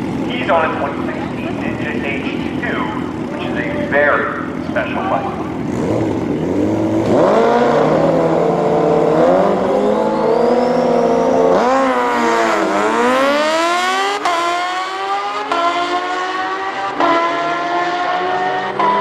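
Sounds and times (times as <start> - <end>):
motorcycles revving and accelerating: 0.0 - 19.0.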